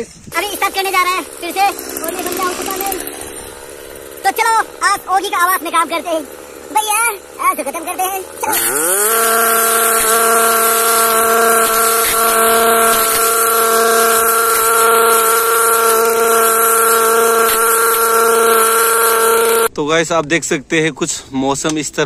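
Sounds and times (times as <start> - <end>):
brush cutter engine at high revs: 0.3 - 19.7.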